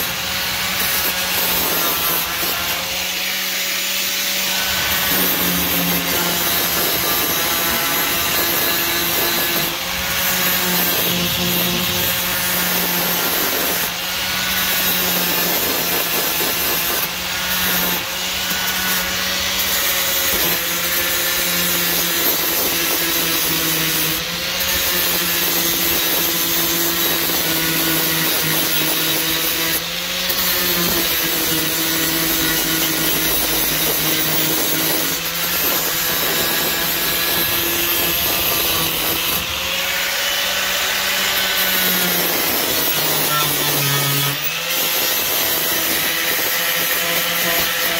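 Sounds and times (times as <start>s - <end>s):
angle grinder sanding metal: 0.0s - 47.9s.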